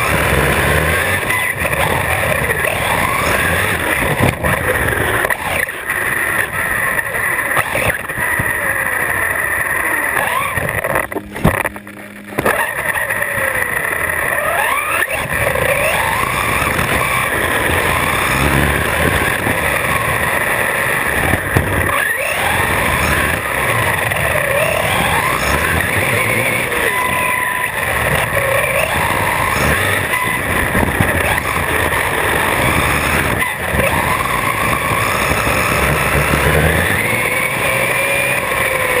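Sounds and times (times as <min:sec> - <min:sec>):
electric motor whining: 0:00.0 - 0:39.0
tyre and road noise: 0:00.0 - 0:39.0.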